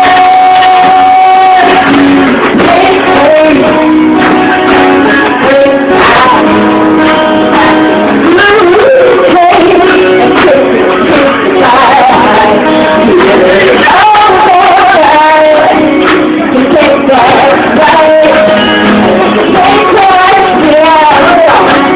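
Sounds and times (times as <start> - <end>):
guitar accompaniment: 0.0 - 21.9
person singing: 0.0 - 21.9.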